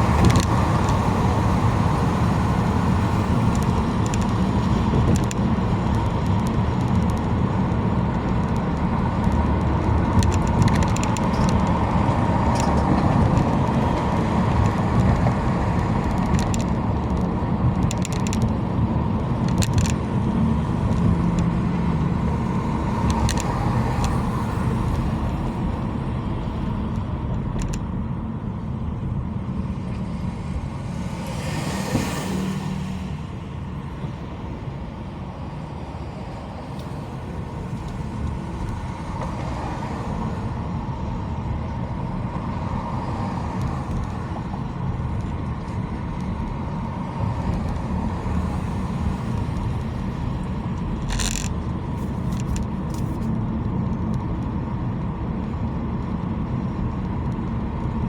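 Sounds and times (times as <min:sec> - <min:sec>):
car road noise: 0:00.0 - 0:58.0.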